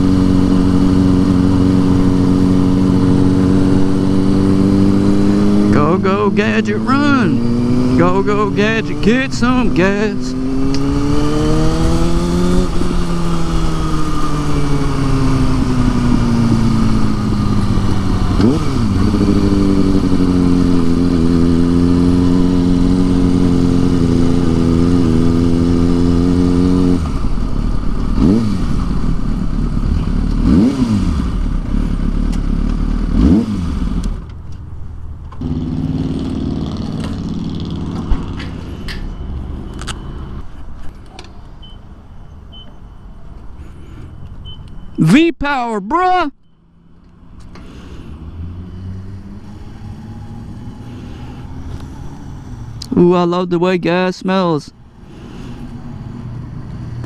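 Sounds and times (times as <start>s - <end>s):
motorcycle engine: 0.0s - 42.8s, 43.4s - 57.0s.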